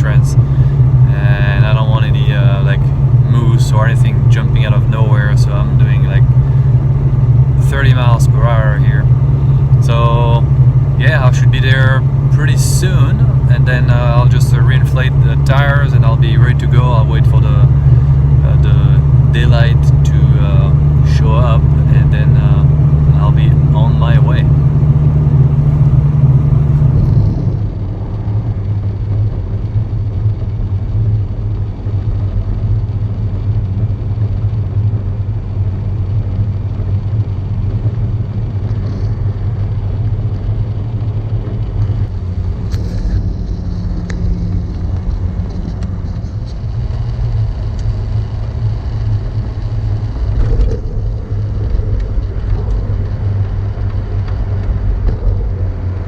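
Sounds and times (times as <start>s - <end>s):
vehicle rumble inside cab: 0.0s - 56.0s.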